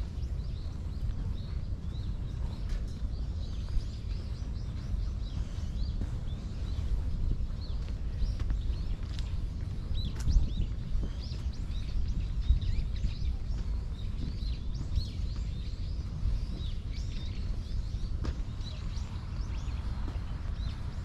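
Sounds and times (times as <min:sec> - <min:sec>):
footsteps on path: 0:00.0 - 0:21.0
low rumble: 0:00.0 - 0:21.0
small birds chirping: 0:00.0 - 0:21.0.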